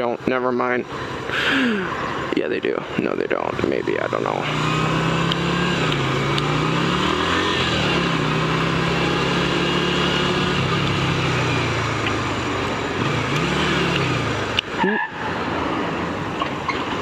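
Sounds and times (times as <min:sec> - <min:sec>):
motorcycle engine running: 0:00.0 - 0:15.3.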